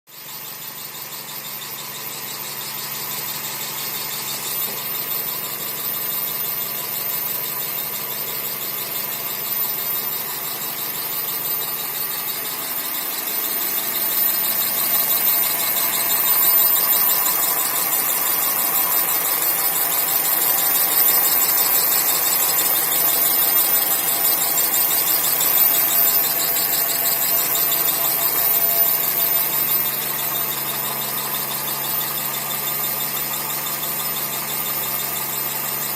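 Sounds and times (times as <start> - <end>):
high-pitched engine whistle: 0.1 - 35.9.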